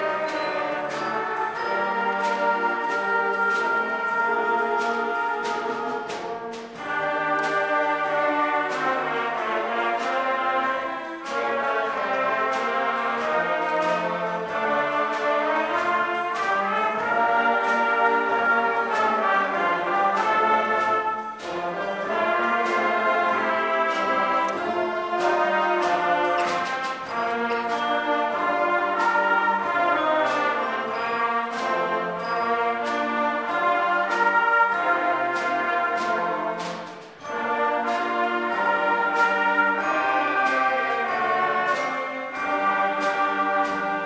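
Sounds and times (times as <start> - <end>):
concert band playing chords: 0.0 - 44.0.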